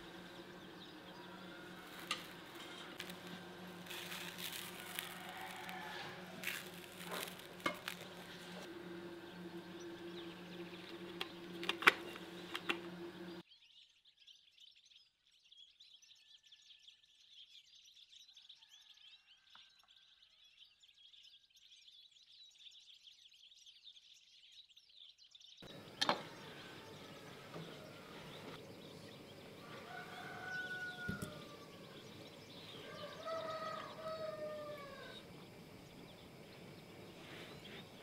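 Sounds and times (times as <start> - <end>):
small birds twittering: 0.0 - 38.0.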